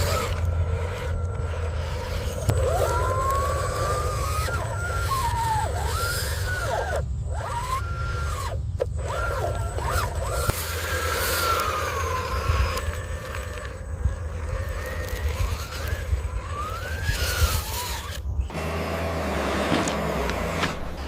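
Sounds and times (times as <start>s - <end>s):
low hum: 0.0s - 21.0s
small electric motors whining: 0.0s - 21.0s.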